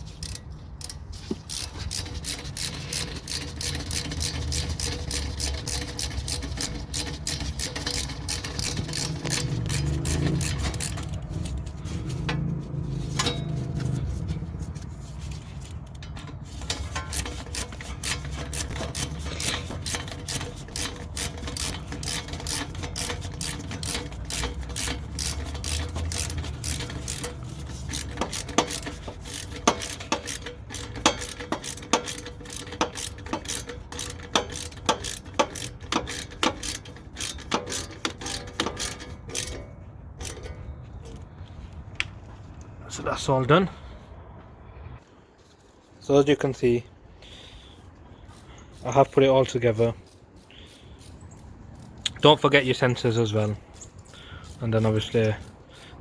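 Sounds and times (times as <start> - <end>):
ratchet clicks: 0.0 - 12.5, 13.1 - 41.2, 48.3 - 56.0
scraping on metal: 0.0 - 41.6, 47.2 - 56.0.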